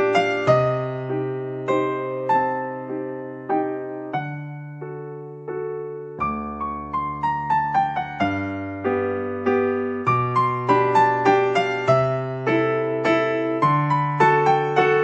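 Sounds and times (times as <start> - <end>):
electric piano melody: 0.0 - 15.0.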